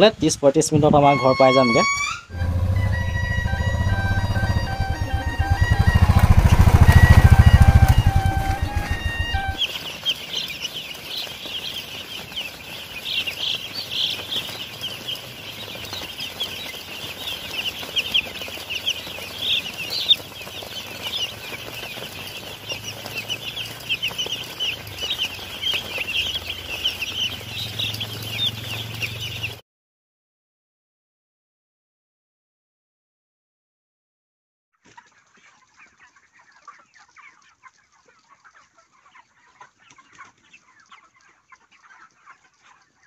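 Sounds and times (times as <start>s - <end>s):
chicks peeping: 0.0s - 29.6s, 34.9s - 43.0s.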